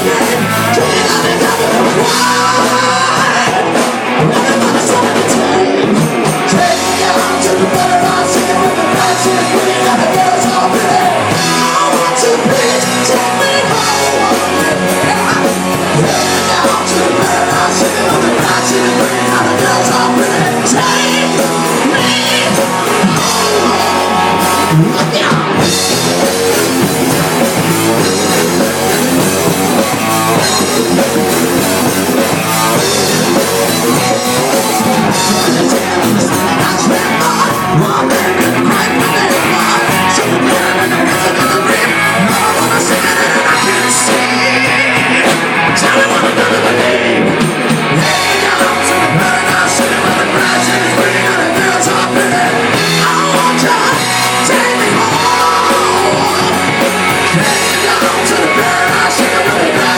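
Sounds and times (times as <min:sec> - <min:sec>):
drum kit: 0:00.0 - 0:59.9
electric guitars: 0:00.0 - 0:59.9
person singing: 0:00.0 - 0:59.9.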